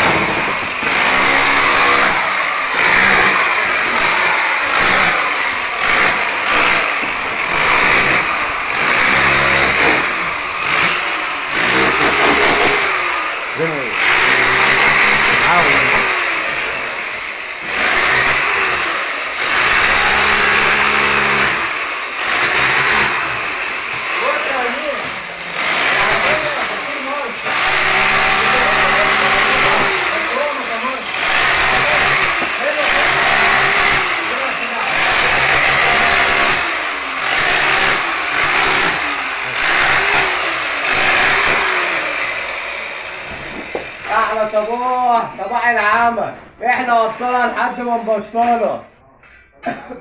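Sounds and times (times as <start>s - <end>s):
demolition hammer breaking masonry: 0.0s - 13.0s, 14.0s - 16.7s, 17.6s - 42.3s.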